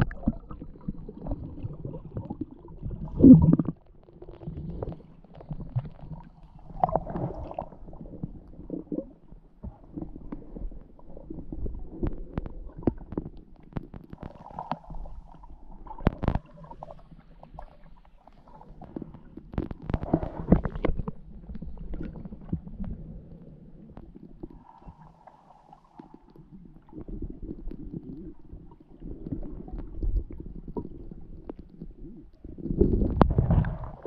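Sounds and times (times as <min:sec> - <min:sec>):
underwater gurgling and bubbling: 0:00.0 - 0:34.0.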